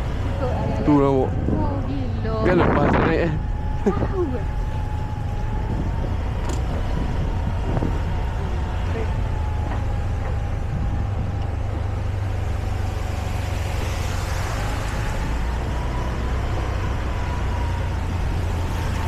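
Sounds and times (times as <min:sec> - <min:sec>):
rushing road noise: 0:00.0 - 0:19.0.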